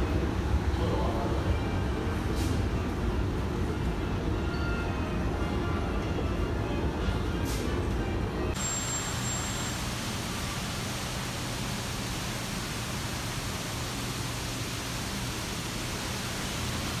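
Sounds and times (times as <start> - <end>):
rushing city ambience: 0.0 - 17.0.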